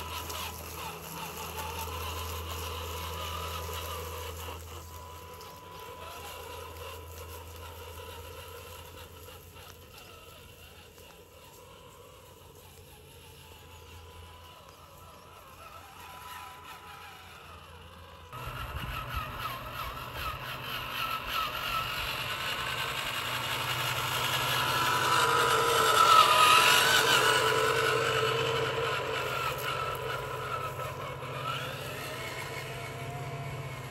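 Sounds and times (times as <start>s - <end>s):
rc car motor whining: 0.0s - 33.9s.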